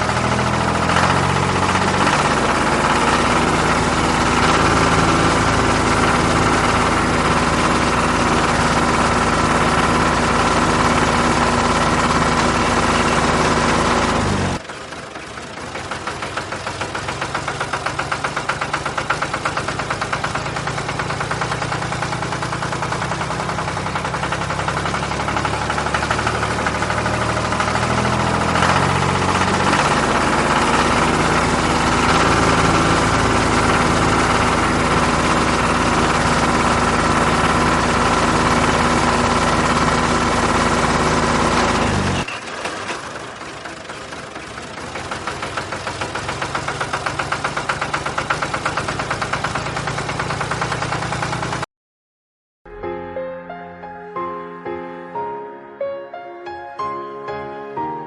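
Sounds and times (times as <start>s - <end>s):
engine knocking: 0.0s - 51.7s.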